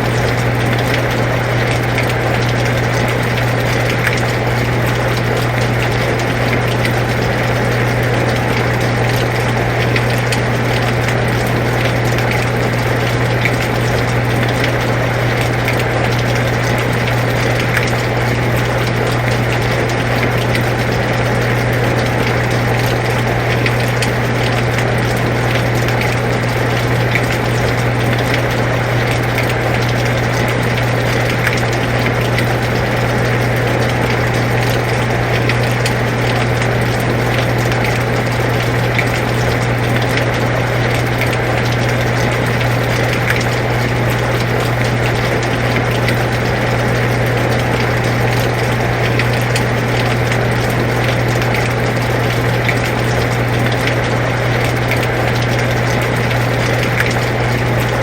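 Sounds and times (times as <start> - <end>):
air conditioner humming: 0.0 - 58.0
raindrop ticks: 0.1 - 58.0.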